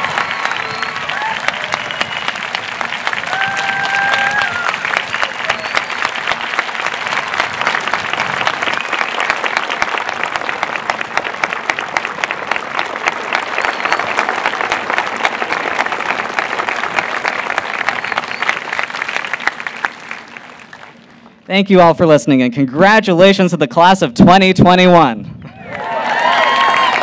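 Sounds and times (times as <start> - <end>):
large crowd applauding: 0.0 - 21.4, 25.5 - 27.0.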